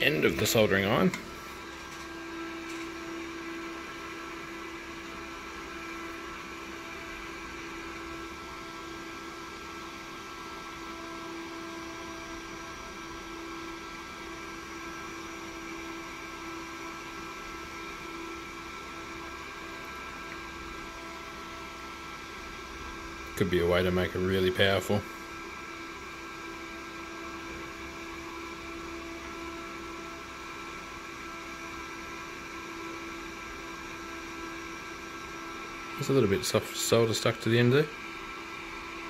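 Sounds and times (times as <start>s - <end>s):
cooling fan air rush: 0.0s - 31.0s, 31.9s - 39.0s.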